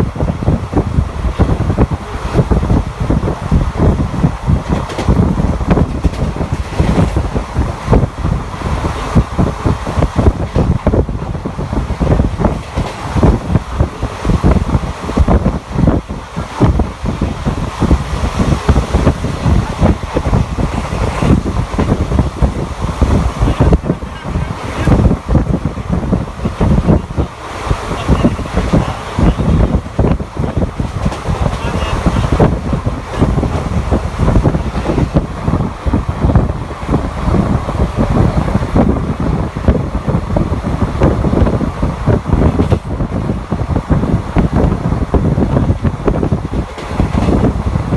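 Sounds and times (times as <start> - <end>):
train knocks: 0.0 - 47.9
train rumbling at speed: 0.0 - 47.9
wind buffeting microphone: 0.0 - 47.9.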